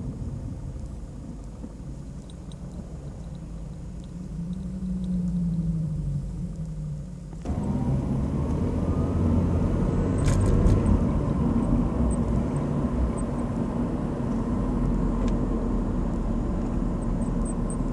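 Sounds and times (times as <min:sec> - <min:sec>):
car engine rumble: 0:00.0 - 0:17.9.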